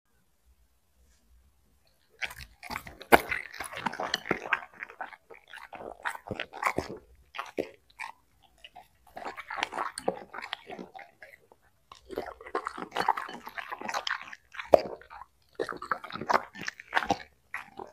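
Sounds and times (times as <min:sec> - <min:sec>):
dog crunching vegetable stalks: 0:02.0 - 0:17.9.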